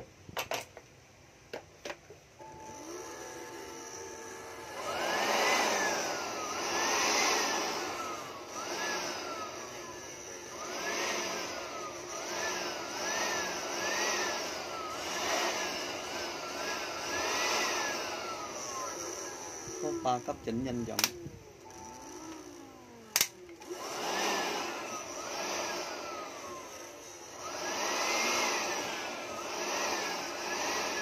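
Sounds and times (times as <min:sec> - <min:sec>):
cordless blower whine: 0:02.4 - 0:31.0.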